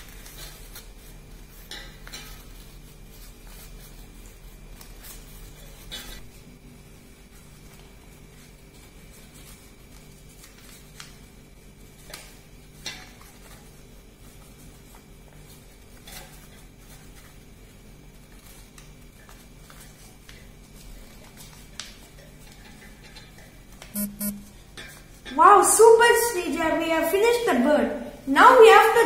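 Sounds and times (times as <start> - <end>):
paper being folded: 0.0 - 23.9.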